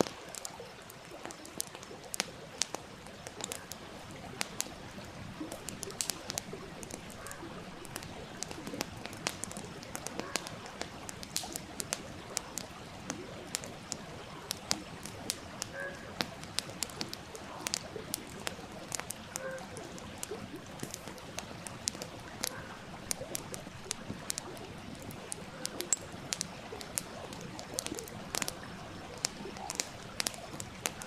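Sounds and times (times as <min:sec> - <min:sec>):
stream rushing: 0:00.0 - 0:31.0
wood fire crackling: 0:00.0 - 0:31.0.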